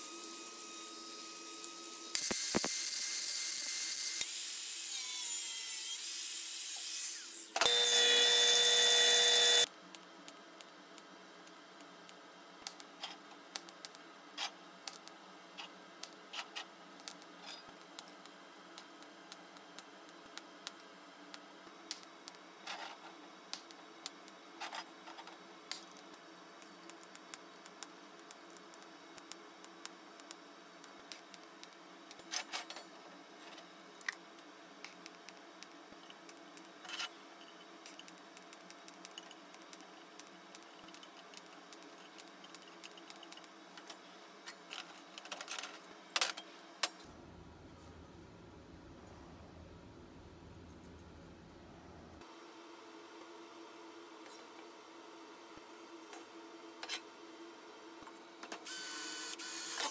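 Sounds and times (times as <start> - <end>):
faint steady hum: 7.5 - 59.9.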